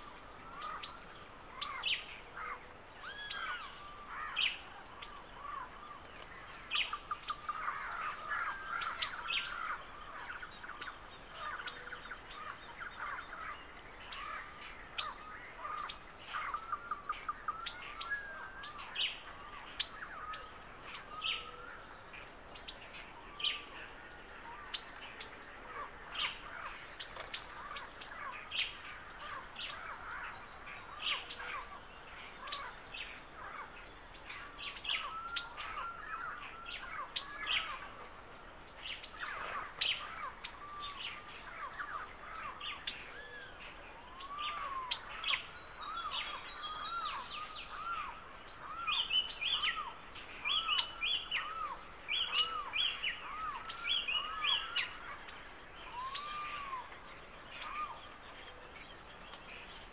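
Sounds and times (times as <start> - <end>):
birds chirping: 0.0 - 59.9
soft whistled bird notes: 0.0 - 59.9.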